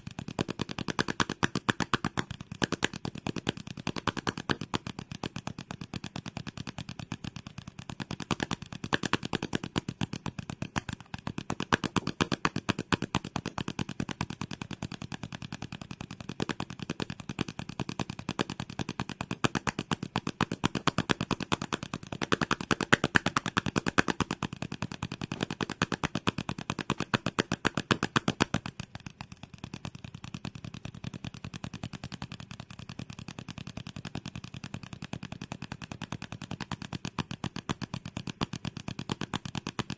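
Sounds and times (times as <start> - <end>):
rapid crisp clicks: 0.0 - 39.9.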